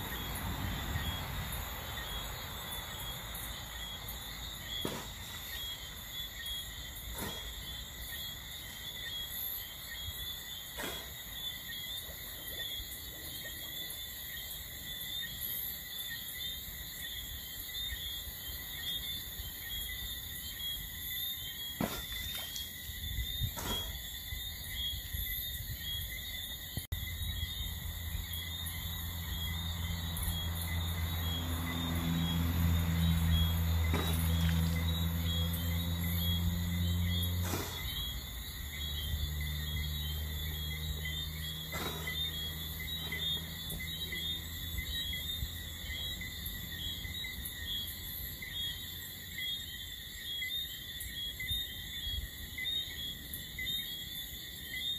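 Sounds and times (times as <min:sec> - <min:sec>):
crickets chirping: 0:00.0 - 0:54.9.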